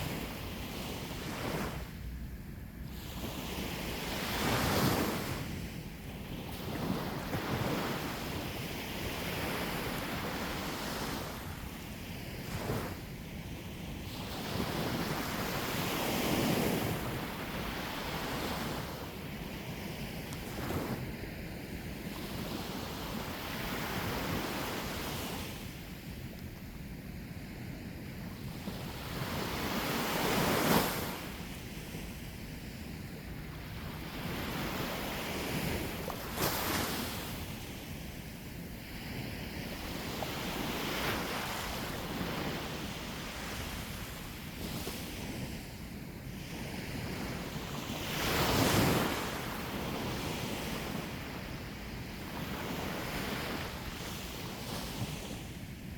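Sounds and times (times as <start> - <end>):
sea waves breaking on shore: 0.0 - 2.0, 2.9 - 26.0, 28.4 - 55.6.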